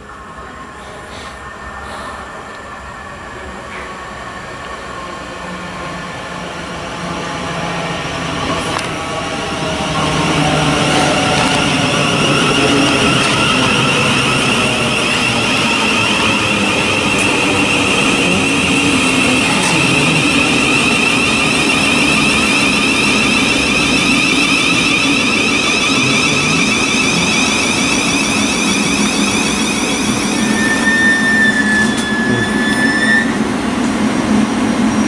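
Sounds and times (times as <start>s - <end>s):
train wheels rumbling on rails: 0.0s - 35.0s
electric traction whine: 5.4s - 33.7s.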